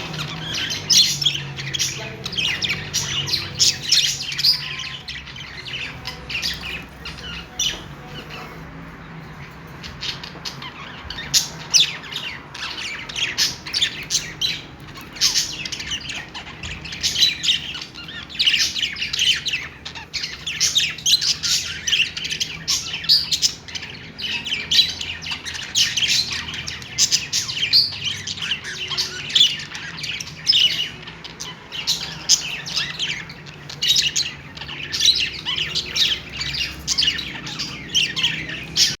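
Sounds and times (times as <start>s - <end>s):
budgerigars chattering: 0.0s - 39.0s.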